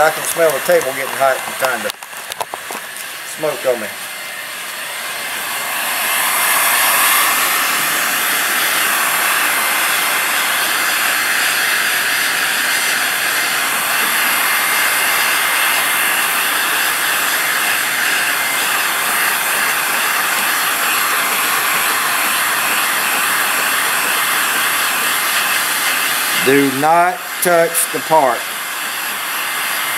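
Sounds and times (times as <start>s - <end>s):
heat gun blowing hot air: 0.0s - 29.9s.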